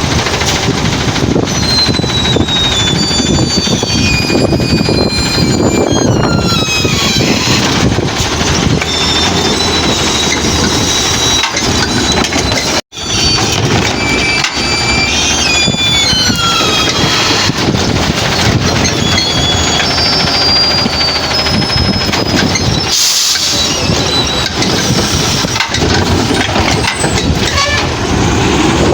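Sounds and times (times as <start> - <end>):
garbage truck whining: 0.0 - 28.9
wind on microphone: 0.0 - 28.9.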